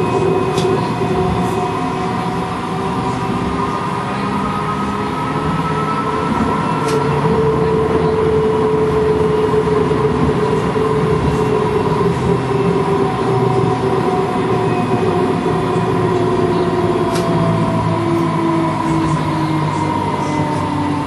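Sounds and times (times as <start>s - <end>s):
streetcar rolling rumble: 0.0s - 21.0s.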